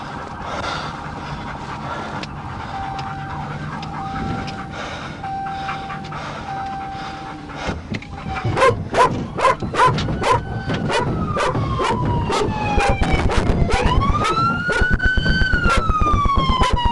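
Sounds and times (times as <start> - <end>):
police siren wailing: 0.0 - 16.9.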